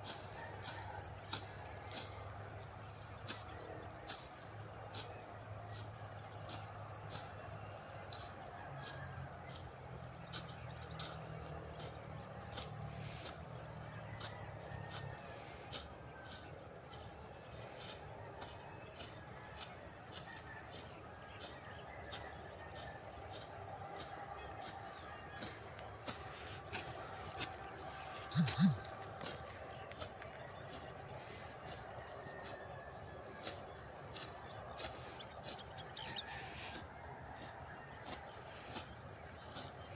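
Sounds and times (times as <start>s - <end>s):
high insect drone: 0.0s - 39.9s
sickle cutting through grass: 0.0s - 39.9s.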